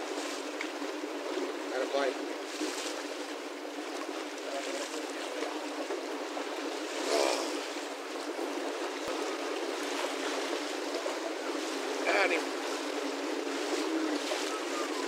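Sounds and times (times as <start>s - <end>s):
lake water lapping against rocks: 0.0s - 15.0s.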